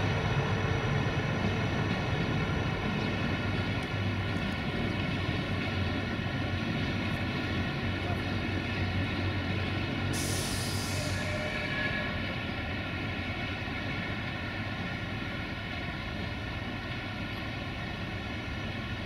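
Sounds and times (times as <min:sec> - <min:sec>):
locomotive engine drone: 0:00.0 - 0:19.0.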